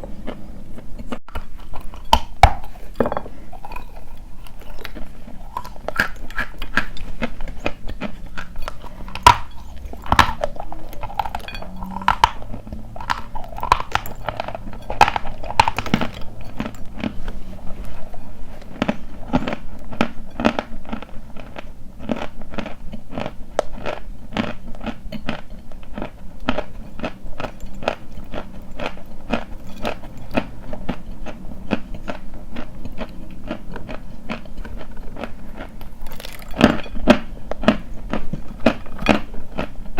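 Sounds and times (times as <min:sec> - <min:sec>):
chalk being chewed crunching: 0:00.0 - 0:39.9.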